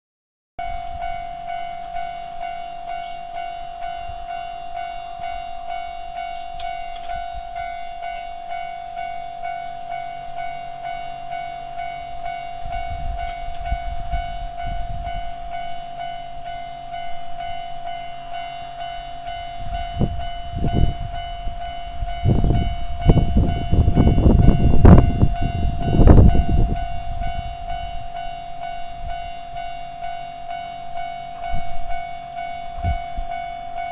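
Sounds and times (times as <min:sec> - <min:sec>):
level-crossing warning bell: 0:00.6 - 0:33.9
train rumble and wheel clacks: 0:00.6 - 0:33.9.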